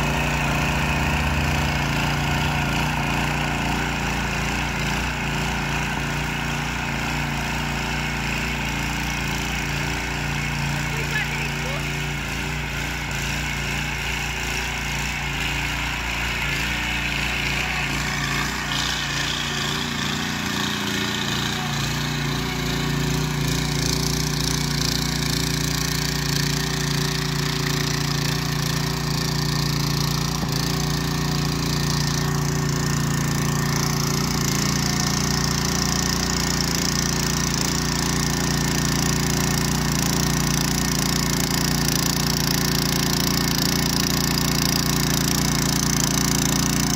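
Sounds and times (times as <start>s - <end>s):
cultivator engine running: 0.0s - 46.9s.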